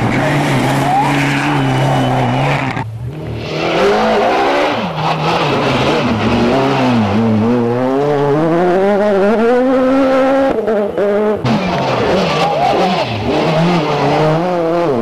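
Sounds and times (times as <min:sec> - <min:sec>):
car engine braking and accelerating: 0:00.0 - 0:15.0
rally car engine revving: 0:00.0 - 0:15.0.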